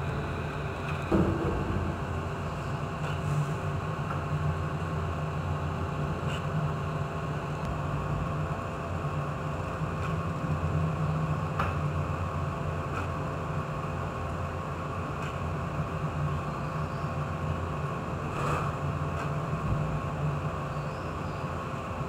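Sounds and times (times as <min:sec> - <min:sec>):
ship engine droning: 0:00.0 - 0:22.0.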